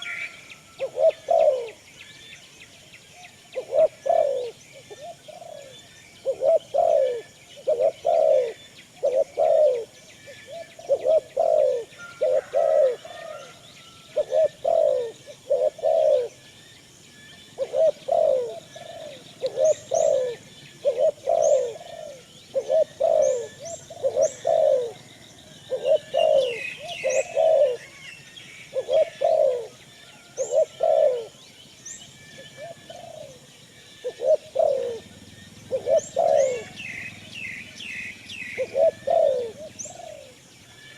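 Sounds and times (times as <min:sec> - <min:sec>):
low repeated bird calls: 0:00.0 - 0:40.9.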